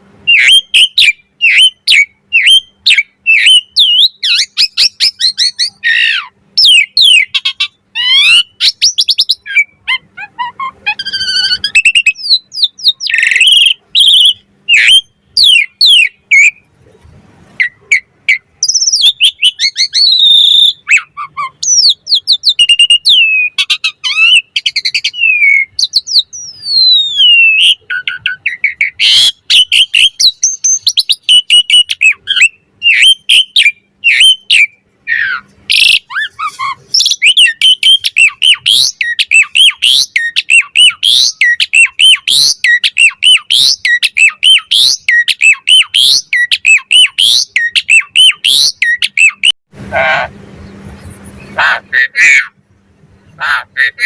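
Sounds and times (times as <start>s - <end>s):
starling singing: 0.2s - 16.7s, 17.6s - 54.0s.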